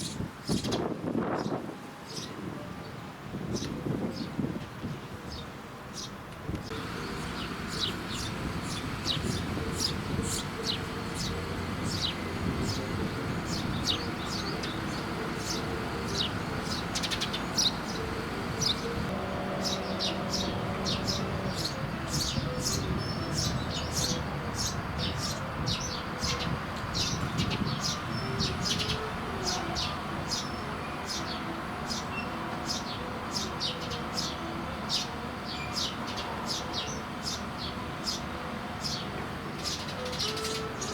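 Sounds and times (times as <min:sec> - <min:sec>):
sparrows chirping: 0:00.0 - 0:02.4, 0:03.5 - 0:04.5, 0:05.3 - 0:40.9.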